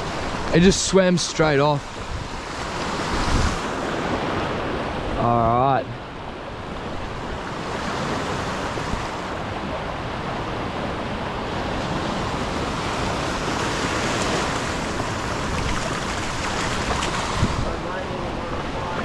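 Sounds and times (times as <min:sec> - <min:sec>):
ocean surf washing: 0:00.0 - 0:19.0
wind buffeting microphone: 0:01.8 - 0:05.2, 0:06.4 - 0:19.0.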